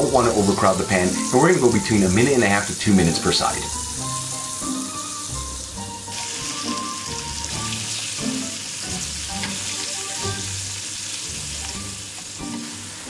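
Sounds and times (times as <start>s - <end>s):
squid deep-frying in oil: 0.0s - 13.0s.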